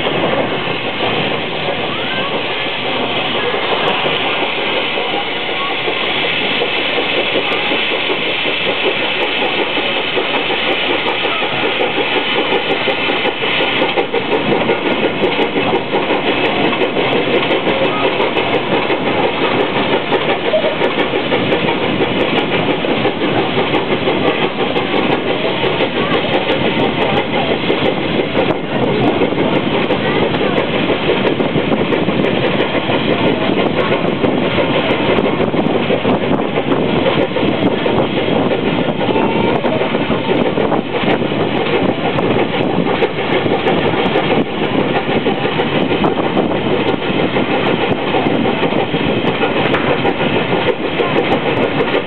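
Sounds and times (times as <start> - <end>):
steam hissing: 0.0 - 52.0
steam locomotive exhaust: 0.0 - 52.0.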